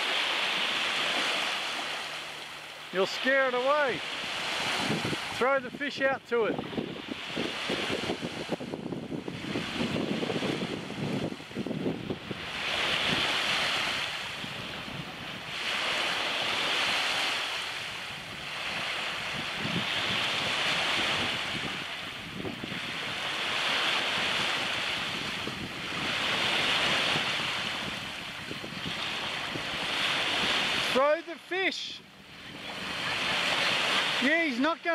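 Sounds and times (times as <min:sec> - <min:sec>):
small waves washing on sand: 0:00.0 - 0:34.9
wind on microphone: 0:03.6 - 0:31.1, 0:32.0 - 0:34.3.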